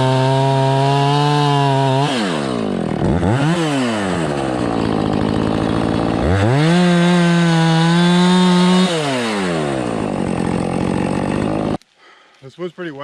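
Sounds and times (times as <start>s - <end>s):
chainsaw revving: 0.0s - 11.8s.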